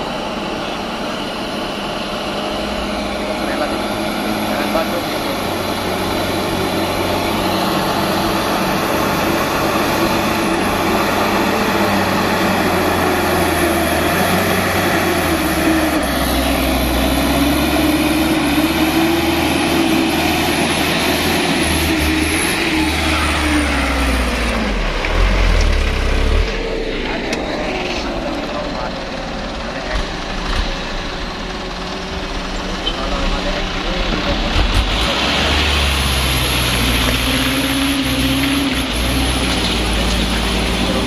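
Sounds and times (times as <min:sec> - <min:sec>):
diesel truck engine labouring: 0:00.0 - 0:41.0.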